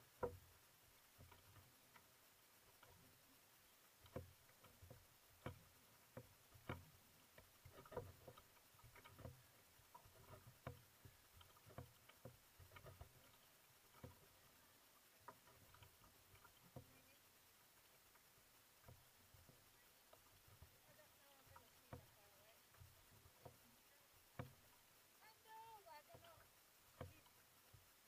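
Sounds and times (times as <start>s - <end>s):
paddle shaft tapping hull: 0.0s - 27.9s
paddle splashing in water: 0.0s - 28.0s.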